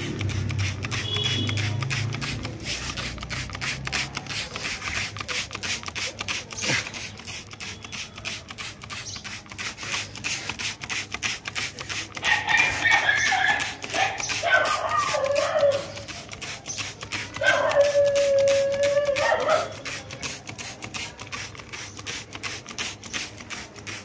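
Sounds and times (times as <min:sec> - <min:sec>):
spray bottle squirts: 0:00.0 - 0:24.0.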